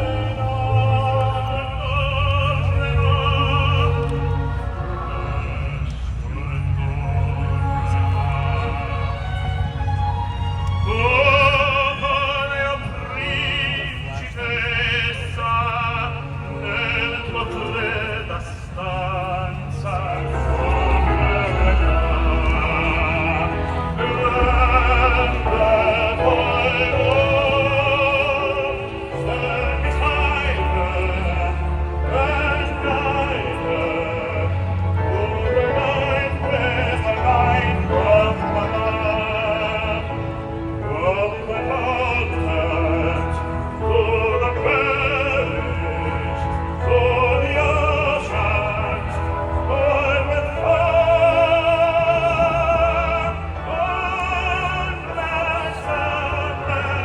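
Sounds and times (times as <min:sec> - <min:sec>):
opera-style singing: 0:00.0 - 0:57.0
orchestral accompaniment: 0:00.0 - 0:57.0.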